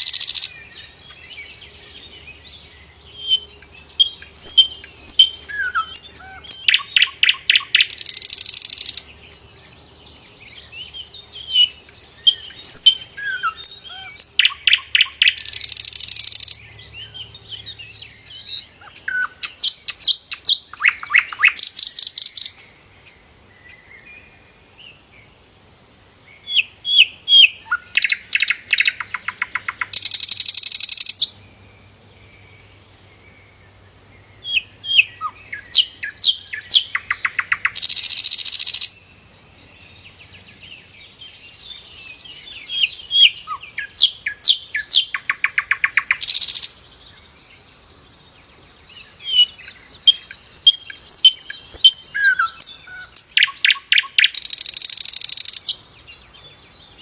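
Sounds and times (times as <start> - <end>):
flycatcher singing: 0.0 - 22.7, 26.4 - 31.4, 34.4 - 39.1, 40.4 - 57.0.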